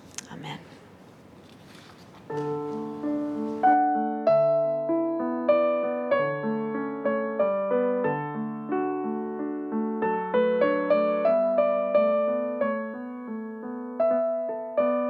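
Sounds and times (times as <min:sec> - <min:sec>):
solo piano playing: 0:02.3 - 0:15.0.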